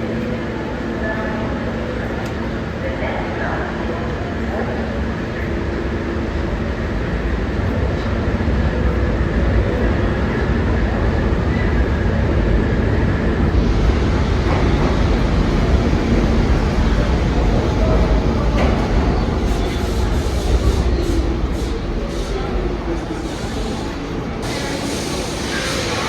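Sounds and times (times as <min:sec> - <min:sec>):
subway train running: 0:00.0 - 0:26.0.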